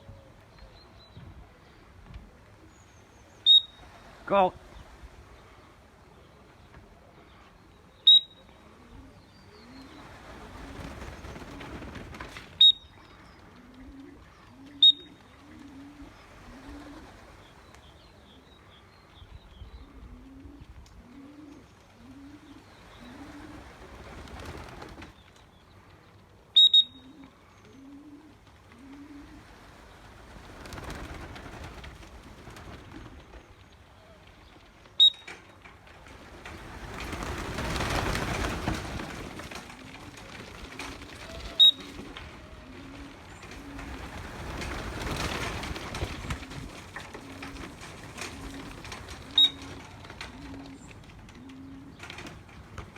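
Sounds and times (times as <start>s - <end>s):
pigeons cooing: 0.0s - 25.2s, 25.8s - 35.1s, 36.2s - 52.9s.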